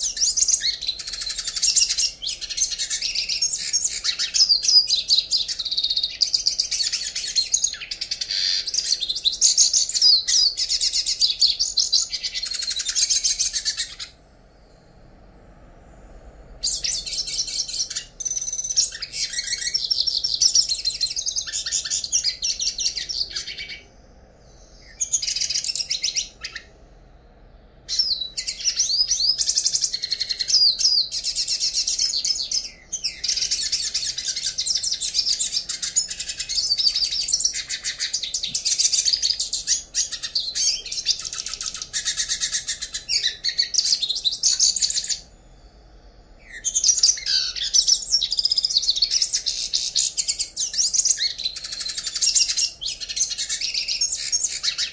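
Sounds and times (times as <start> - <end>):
bird twittering and trilling: 0.0 - 14.9, 16.5 - 54.9.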